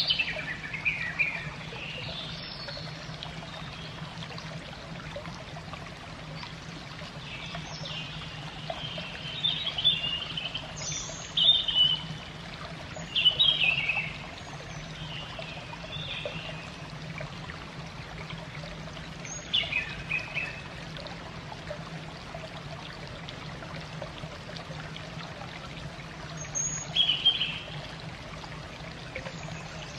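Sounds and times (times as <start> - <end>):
running water rushing: 0.0 - 29.9.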